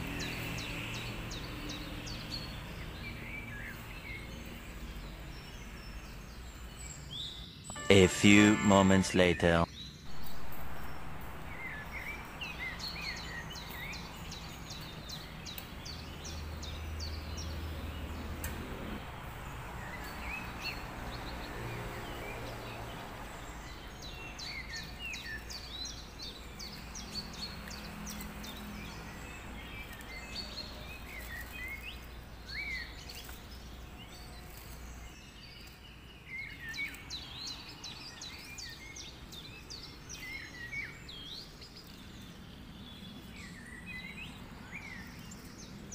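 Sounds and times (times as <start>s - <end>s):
small birds chirping: 0.0s - 7.9s, 8.5s - 45.9s.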